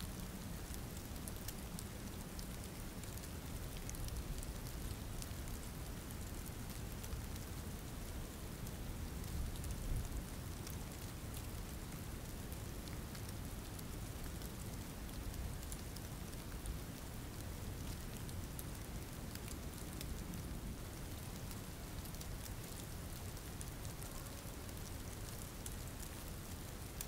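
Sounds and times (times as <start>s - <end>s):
steady rainfall hiss: 0.0s - 27.0s
raindrops ticking: 0.1s - 9.7s, 10.3s - 27.0s.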